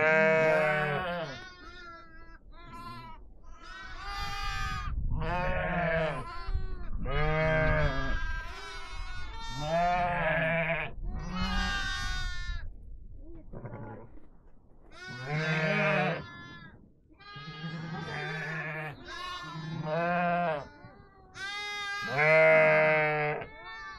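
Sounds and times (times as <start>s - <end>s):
sheep and goats bleating: 0.0s - 12.7s, 14.8s - 23.9s.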